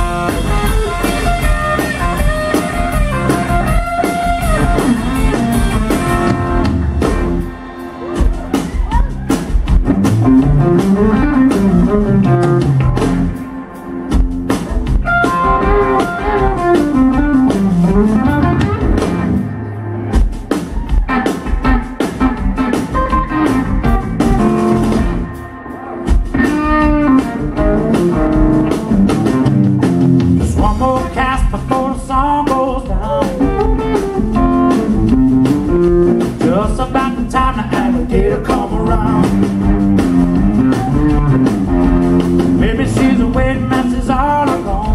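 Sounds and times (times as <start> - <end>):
electric guitar: 0.0 - 44.9
live blues band playing: 0.0 - 44.9.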